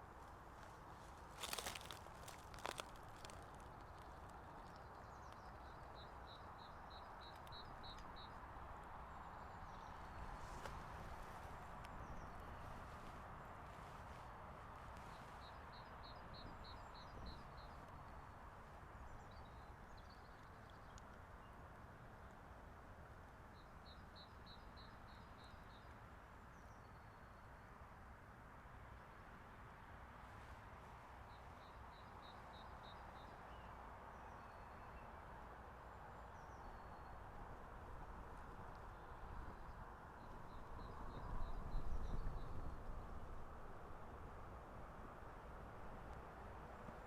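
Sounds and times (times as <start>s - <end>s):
distant motorway traffic: 0.0s - 47.0s
wind: 0.0s - 47.0s.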